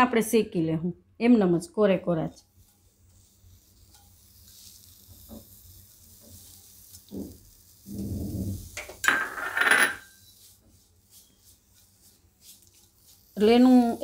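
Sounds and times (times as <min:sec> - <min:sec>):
spatula scraping leaves in a pan: 0:02.4 - 0:14.0.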